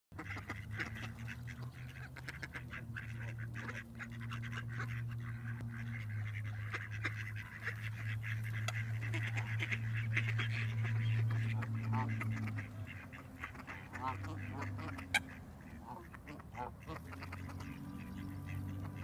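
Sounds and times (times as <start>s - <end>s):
ducks quacking and clucking: 0.2s - 19.0s
steady low hum: 0.2s - 19.0s.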